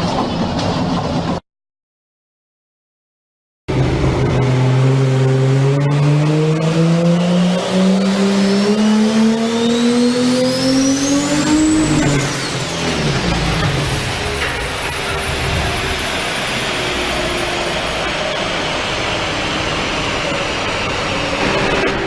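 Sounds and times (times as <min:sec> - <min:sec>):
car engine accelerating hard: 0:03.7 - 0:22.0
high whine: 0:03.7 - 0:22.0.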